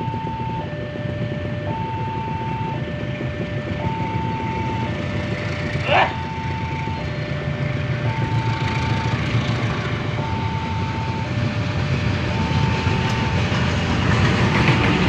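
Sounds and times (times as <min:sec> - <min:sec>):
low rumble of approaching train: 0:00.0 - 0:15.0.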